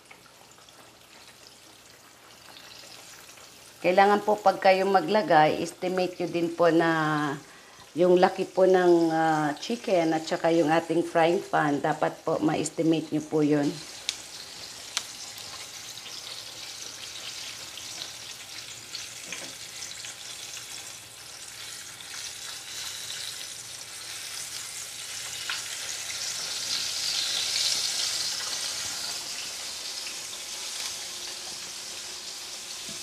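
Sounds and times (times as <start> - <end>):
cutlet deep-frying in oil: 0.0 - 33.0.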